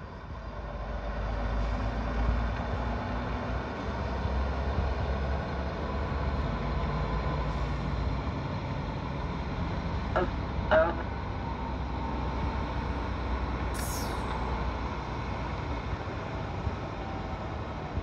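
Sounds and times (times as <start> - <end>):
diesel truck engines rumbling: 0.0 - 18.0.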